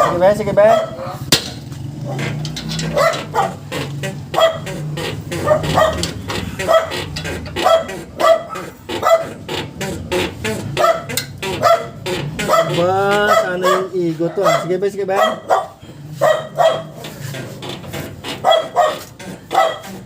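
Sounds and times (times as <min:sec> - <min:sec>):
suspension squeaking: 0:00.0 - 0:20.0.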